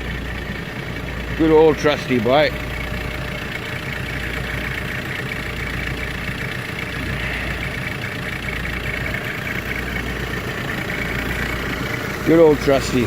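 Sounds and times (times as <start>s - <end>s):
diesel engine idling with clatter: 0.0s - 13.0s.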